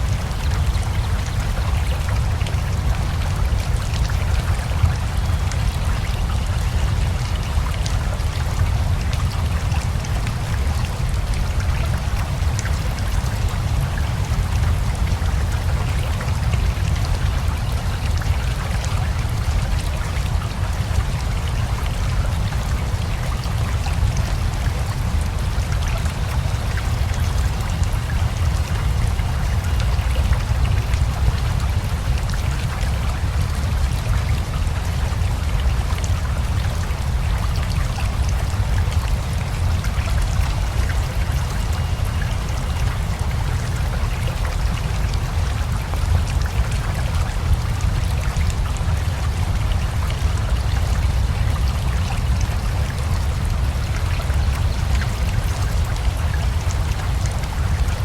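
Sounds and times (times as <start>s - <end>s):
river water rumbling: 0.0s - 58.0s
steady rain falling: 0.0s - 58.0s.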